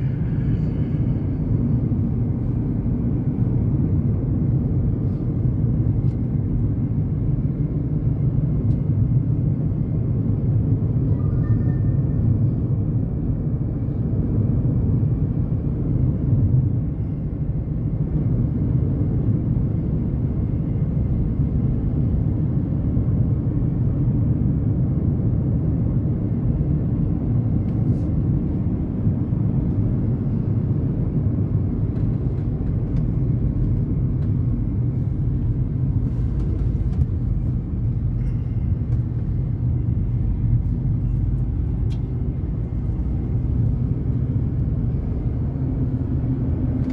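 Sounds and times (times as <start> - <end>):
car interior road rumble: 0.0 - 46.9.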